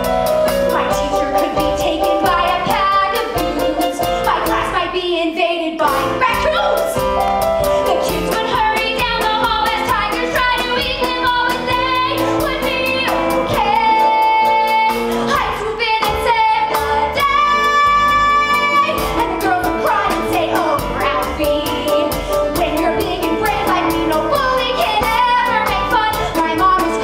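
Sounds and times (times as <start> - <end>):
instrumental accompaniment: 0.0 - 5.2, 5.8 - 27.0
woman singing into microphone: 0.8 - 6.8, 7.9 - 27.0.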